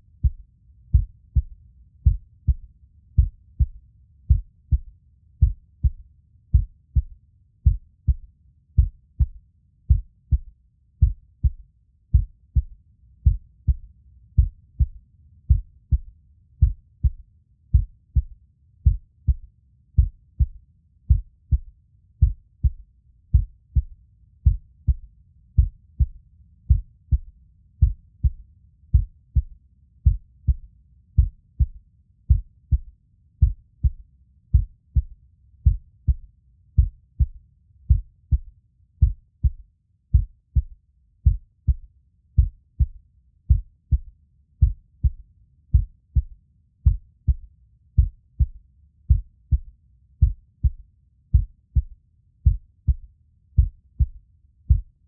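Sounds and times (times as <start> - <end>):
heartbeat thumps: 0.2 - 55.0.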